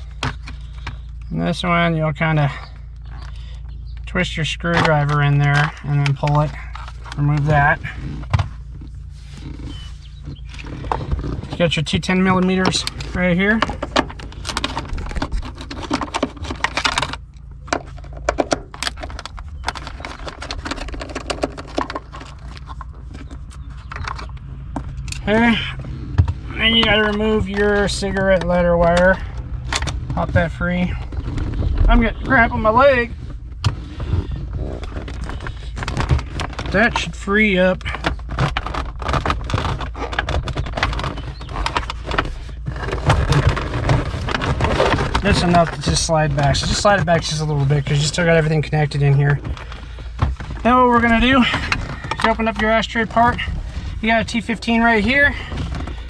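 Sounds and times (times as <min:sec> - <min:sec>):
low rumble: 0:00.0 - 0:39.8, 0:40.4 - 0:56.0.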